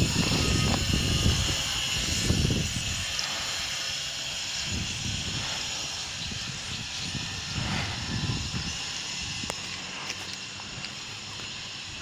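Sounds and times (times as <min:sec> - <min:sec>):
low uneven rumble: 0:00.0 - 0:12.0
steady high hiss: 0:00.0 - 0:12.0.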